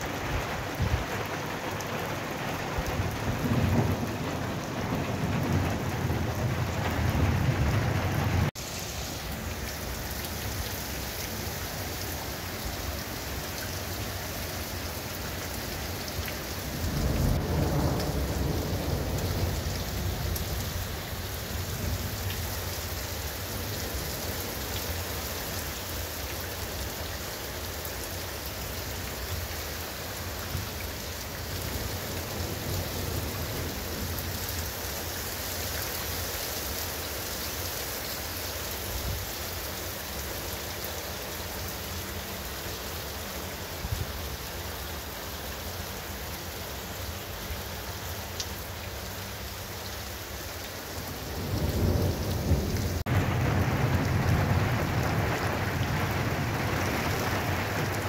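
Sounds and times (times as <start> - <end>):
heavy rain on rooftops: 0.0 - 58.0.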